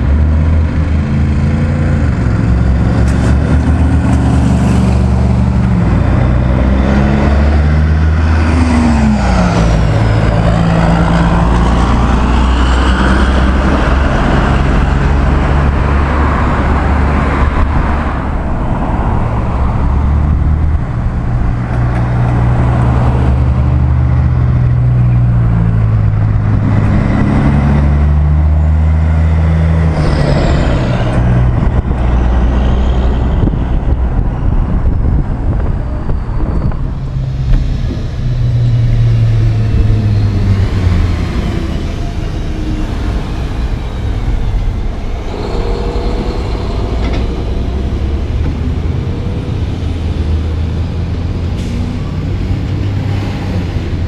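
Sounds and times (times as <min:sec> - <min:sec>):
tyre and road noise: 0:00.0 - 0:54.0
vehicle engines passing: 0:00.0 - 0:54.0.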